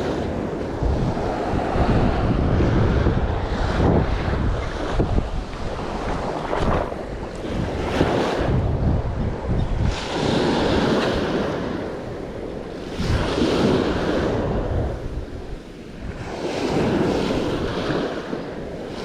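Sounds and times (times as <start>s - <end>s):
waves washing in: 0.0s - 19.0s
wind buffeting microphone: 0.0s - 19.0s.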